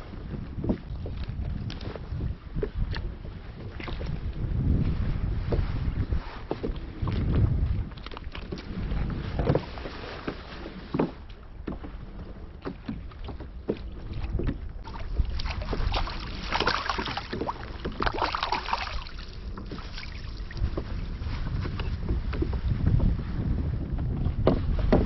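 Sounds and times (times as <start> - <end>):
water splashing against a kayak: 0.0 - 25.0
wind rumble on microphone: 0.0 - 25.0.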